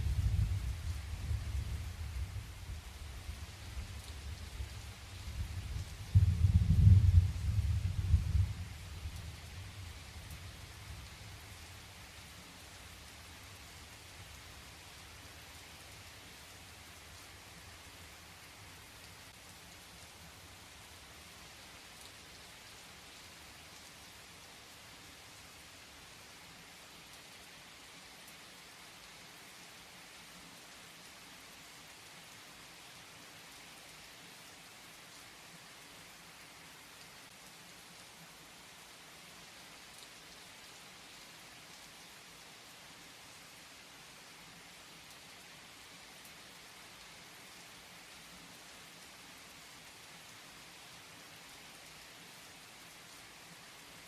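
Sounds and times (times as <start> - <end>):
steady soft rainfall: 0.0 - 54.0.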